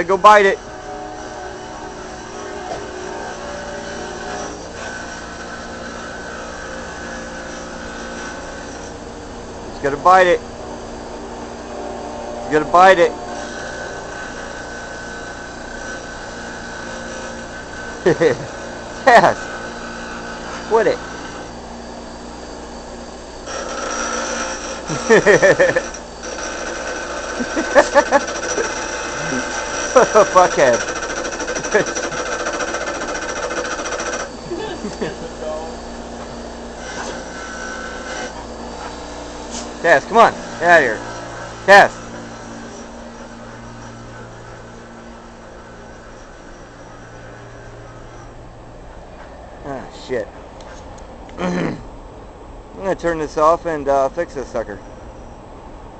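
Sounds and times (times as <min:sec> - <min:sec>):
electric grinder grinding metal: 0:00.0 - 0:48.4.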